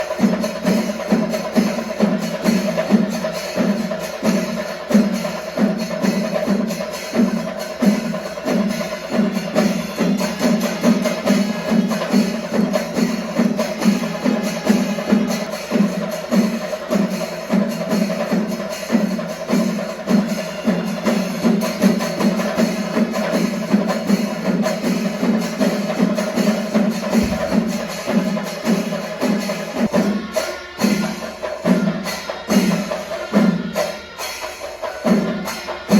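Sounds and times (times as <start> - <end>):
cymbals clashing: 0.0 - 35.9
drums beating fast rhythm: 0.0 - 35.9.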